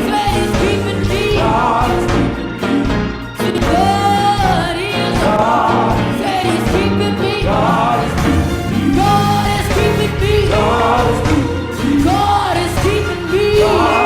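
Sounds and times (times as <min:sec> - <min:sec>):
band accompaniment: 0:00.0 - 0:14.0.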